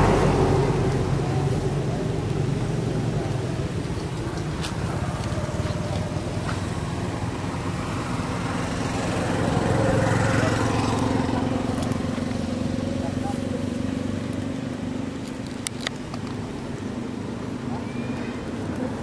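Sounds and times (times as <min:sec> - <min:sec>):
motor engine humming: 0:00.0 - 0:17.7.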